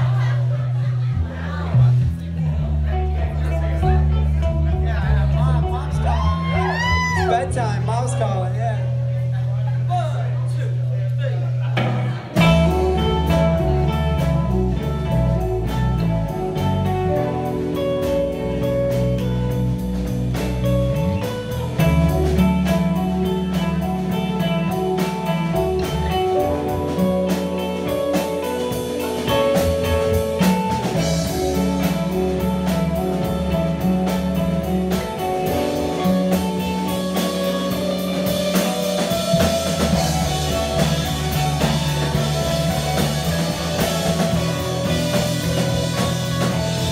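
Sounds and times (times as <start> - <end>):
drum kit beat: 0.0 - 10.2, 10.8 - 46.9
bass guitar: 0.0 - 46.9
electric guitars: 0.0 - 46.9.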